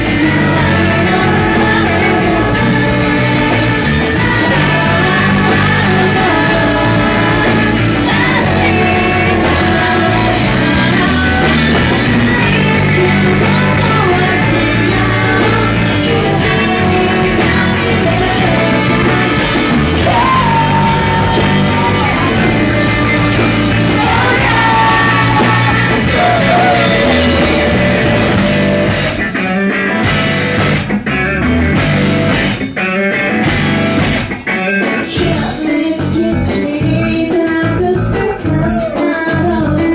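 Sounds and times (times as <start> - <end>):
woman singing: 0.0 - 28.7, 35.0 - 39.9
drums: 0.0 - 39.9
electric bass: 0.0 - 39.9
electric guitars: 0.0 - 39.9.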